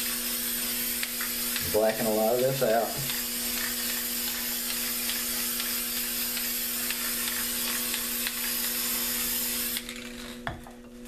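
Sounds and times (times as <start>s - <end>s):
spray paint can hissing: 0.0s - 10.4s.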